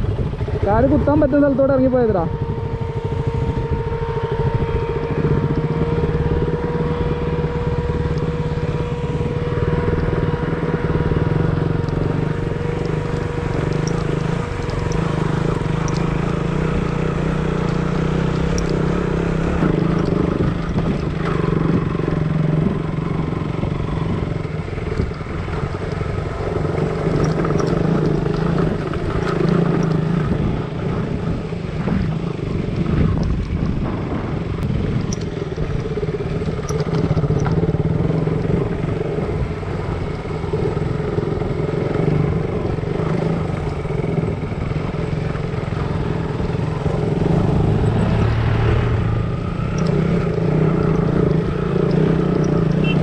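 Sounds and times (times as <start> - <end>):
motorcycle engine running: 0.0 - 53.0
road noise: 0.0 - 53.0.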